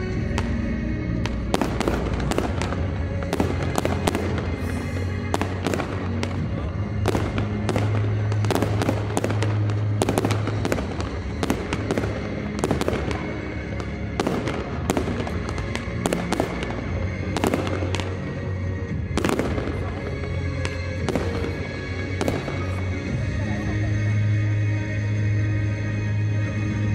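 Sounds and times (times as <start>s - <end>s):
fireworks bangs and crackles: 0.0s - 23.7s
music over sound system: 0.0s - 26.9s.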